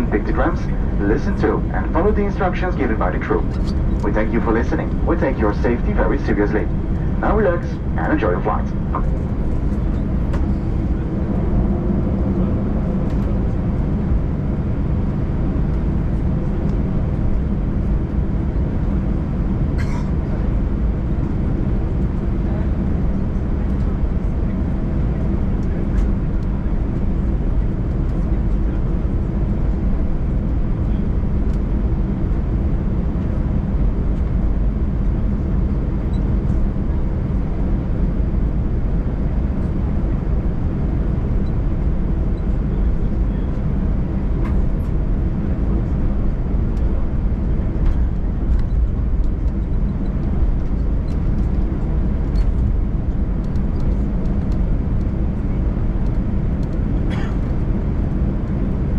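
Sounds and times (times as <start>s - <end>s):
jet engine cabin rumble: 0.0s - 58.9s.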